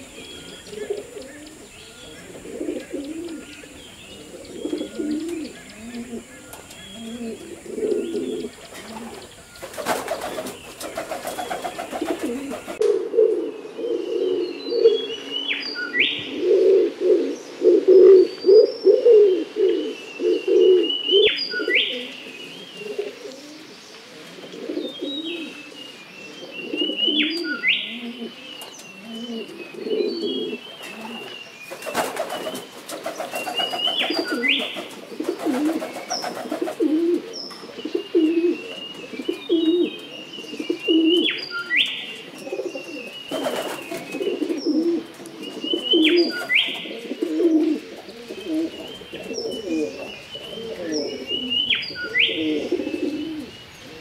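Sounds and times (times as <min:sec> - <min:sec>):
pigeons cooing: 0:00.0 - 0:15.3, 0:16.0 - 0:54.0.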